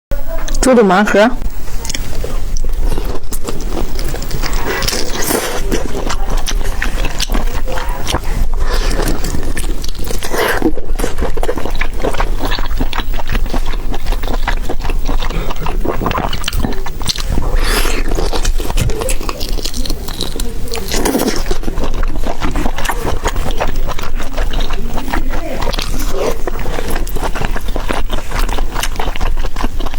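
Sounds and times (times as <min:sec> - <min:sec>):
person chewing and slurping food: 0:01.4 - 0:29.9.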